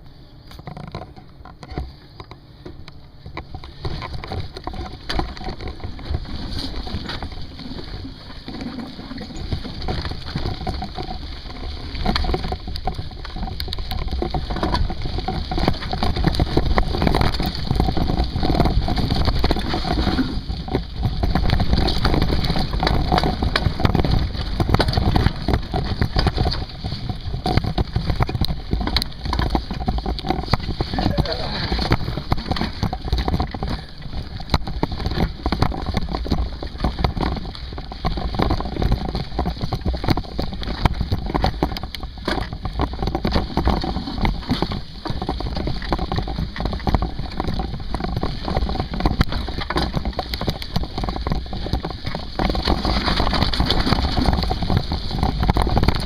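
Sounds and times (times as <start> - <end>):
bike knocks and rattles: 0.0 - 56.0.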